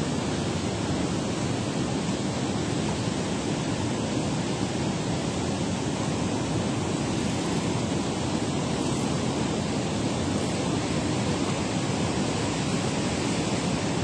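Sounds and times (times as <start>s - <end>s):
water rushing from dam spillway: 0.0s - 14.0s.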